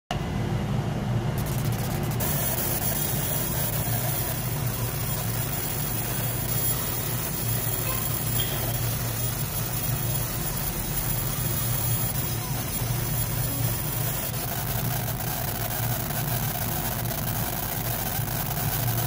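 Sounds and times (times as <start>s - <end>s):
laser engraver humming: 1.3s - 19.0s.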